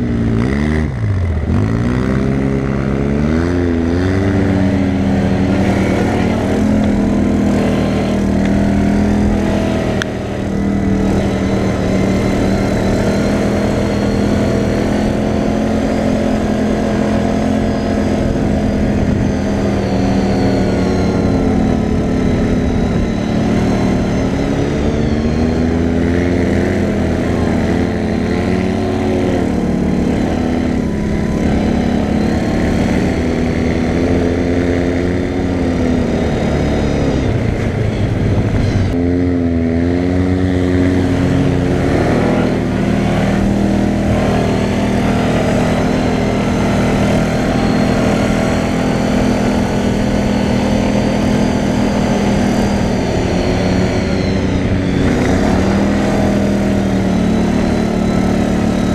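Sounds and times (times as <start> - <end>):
quad bike engine revving: 0.0 - 58.9
wind rumbling on microphone: 0.0 - 58.9.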